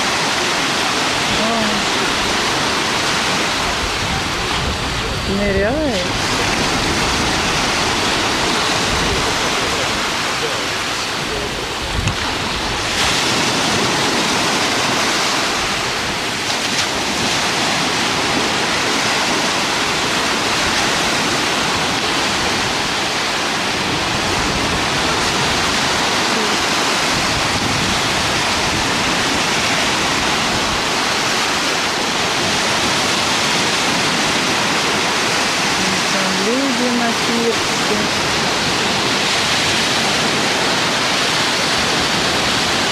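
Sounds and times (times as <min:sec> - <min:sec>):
sea surf breaking on shore: 0:00.0 - 0:42.9.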